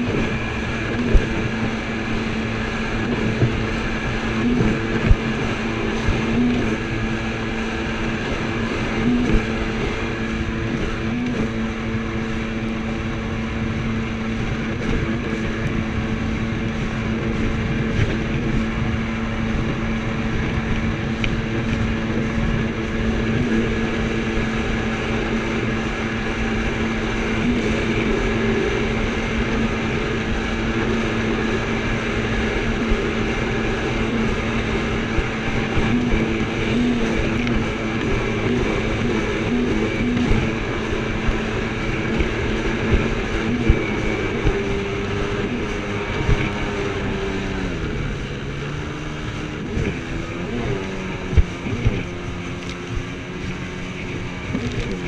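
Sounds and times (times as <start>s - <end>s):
jet ski engine running: 0.0s - 55.0s
rushing water: 0.0s - 55.0s.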